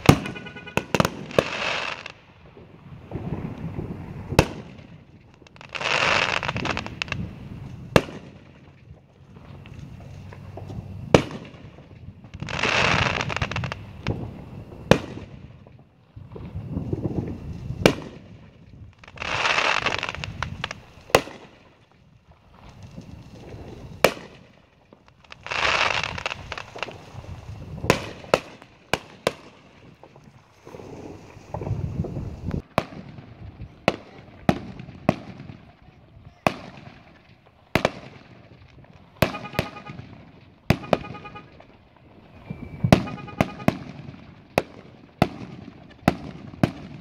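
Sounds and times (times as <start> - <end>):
firework crackling: 0.0 - 47.0
firework shells bursting with bangs: 0.0 - 47.0.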